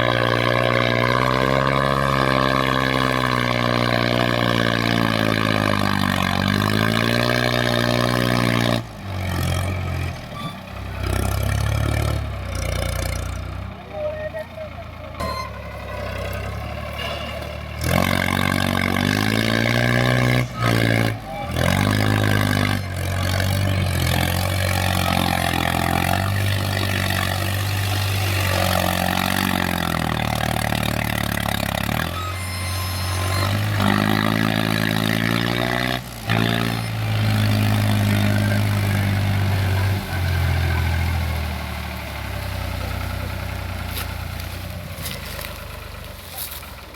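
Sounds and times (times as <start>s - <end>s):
tractor diesel engine revving: 0.0s - 46.9s.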